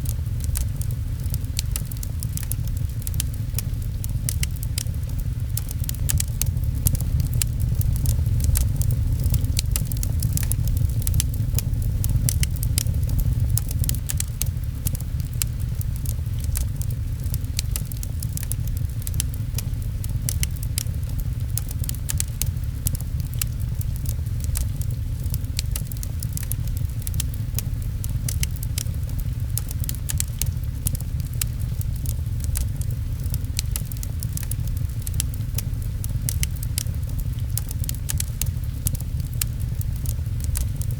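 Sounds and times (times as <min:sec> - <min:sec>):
fireplace crackling and popping: 0:00.0 - 0:40.9
rain on a window: 0:00.0 - 0:40.9
steady low rumble: 0:00.0 - 0:40.9.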